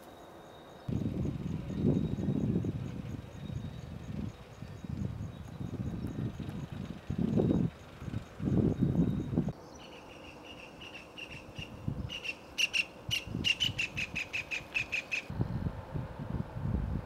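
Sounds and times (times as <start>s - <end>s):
bird chirping rapidly: 1.4s - 15.3s.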